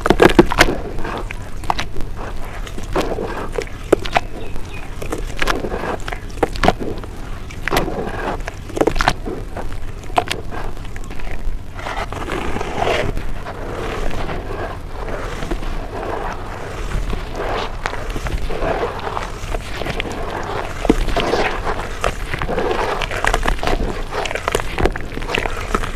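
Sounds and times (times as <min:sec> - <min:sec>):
dry dirt crunching: 0:00.0 - 0:25.9.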